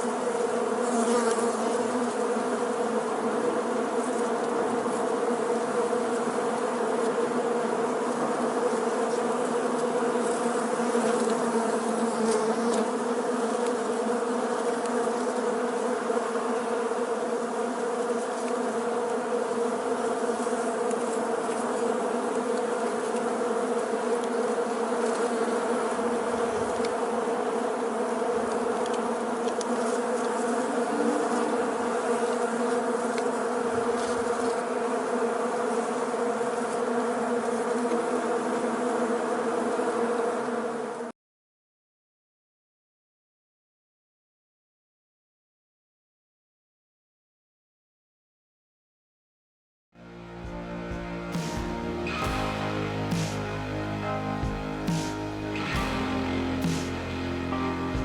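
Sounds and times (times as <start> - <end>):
swarm of bees buzzing: 0.0 - 41.1, 50.0 - 58.0.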